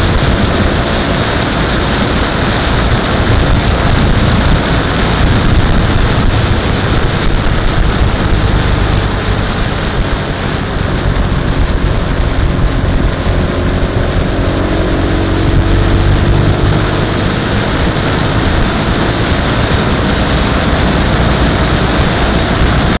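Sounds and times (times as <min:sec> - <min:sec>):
motorcycle engine running: 0:00.0 - 0:23.0
wind rush over microphone: 0:00.0 - 0:23.0.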